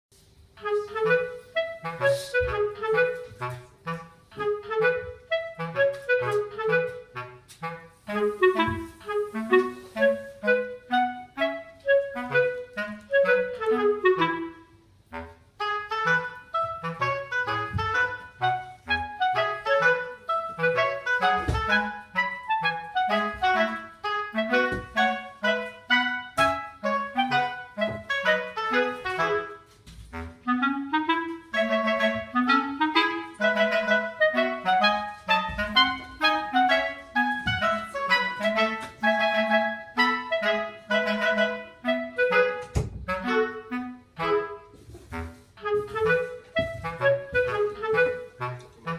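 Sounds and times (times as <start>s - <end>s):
bouncy woodwind melody: 0.2s - 48.9s.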